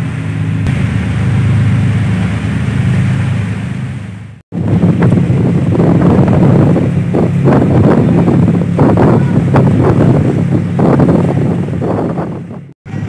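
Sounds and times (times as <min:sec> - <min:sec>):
ferry engines droning: 0:00.0 - 0:13.0
wind buffeting microphone: 0:00.5 - 0:13.0.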